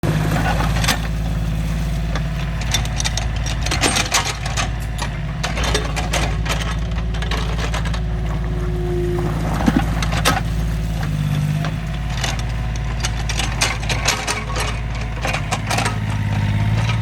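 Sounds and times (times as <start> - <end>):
excavator engine running: 0.0 - 17.0
metal clanks and knocks: 0.3 - 17.0.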